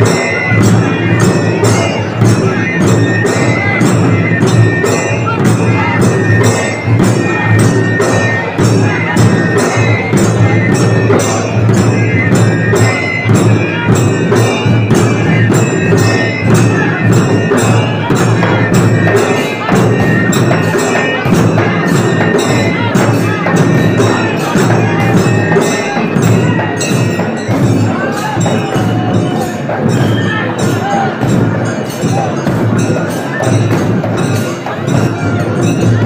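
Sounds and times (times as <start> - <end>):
dhol drums beating: 0.0 - 36.0.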